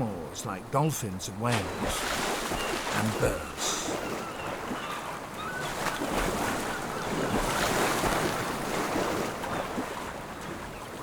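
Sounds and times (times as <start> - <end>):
ocean waves: 0.0 - 11.0
wind at sea: 0.0 - 11.0.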